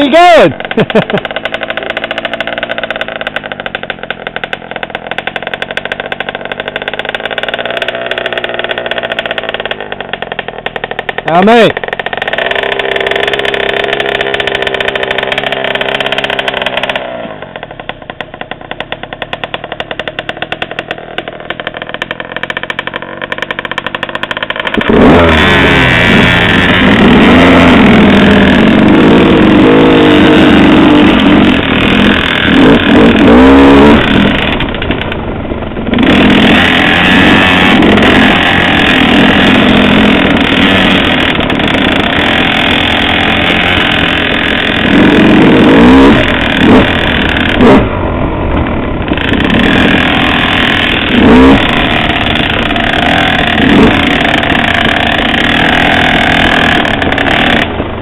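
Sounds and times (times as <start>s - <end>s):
motorcycle engine revving: 0.0s - 58.0s
small two-stroke engine running: 0.0s - 58.0s.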